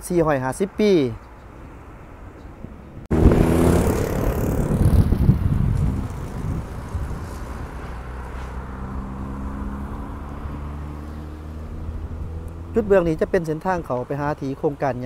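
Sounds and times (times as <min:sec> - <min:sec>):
vehicle engine humming: 0:01.2 - 0:14.8.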